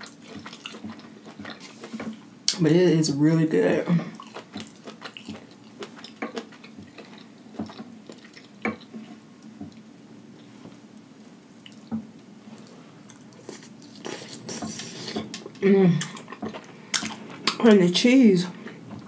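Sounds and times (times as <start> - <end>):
soft squelches of food dipping: 0.0 - 2.6, 3.7 - 19.0
wet chewing: 0.0 - 2.6, 4.0 - 17.9.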